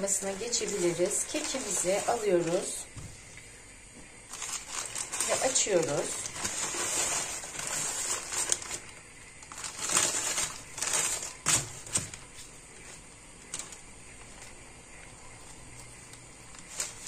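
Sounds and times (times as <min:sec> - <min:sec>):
baking paper crinkling: 0:00.0 - 0:03.3, 0:04.1 - 0:17.0.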